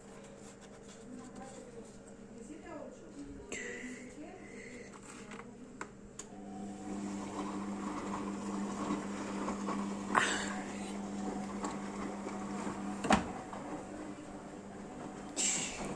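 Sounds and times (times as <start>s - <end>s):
washing machine humming: 0.0s - 15.9s.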